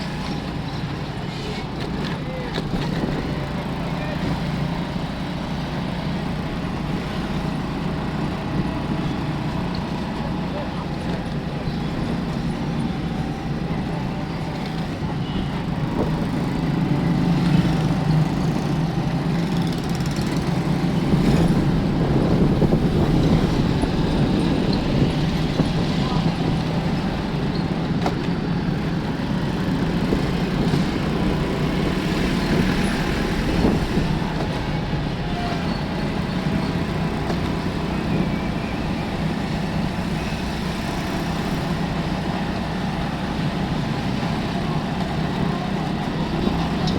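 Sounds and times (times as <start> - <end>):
road noise: 0.0 - 46.9
vehicle engines running: 0.0 - 46.9.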